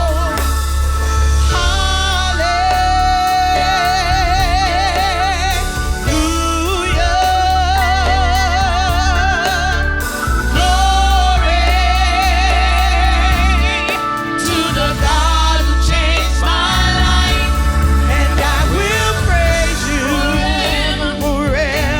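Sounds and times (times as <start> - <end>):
heavy bass accompaniment: 0.0 - 21.9
person singing gospel song: 0.0 - 21.9.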